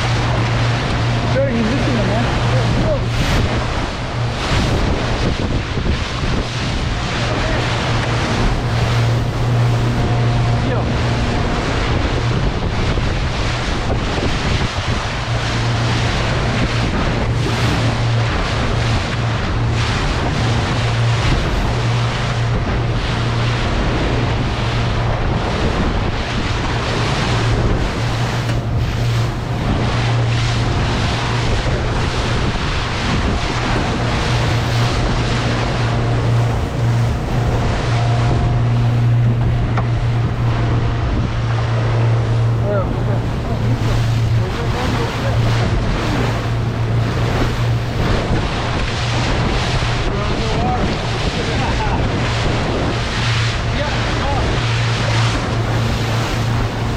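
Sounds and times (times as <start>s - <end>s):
boat motor humming: 0.0s - 56.9s
water splashing against hull: 0.0s - 56.9s
wind buffeting microphone: 0.0s - 56.9s.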